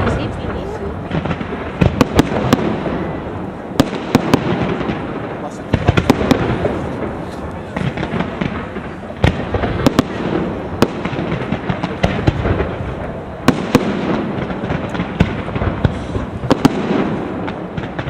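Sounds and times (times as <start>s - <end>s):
smaller firework reports: 0.0s - 18.0s.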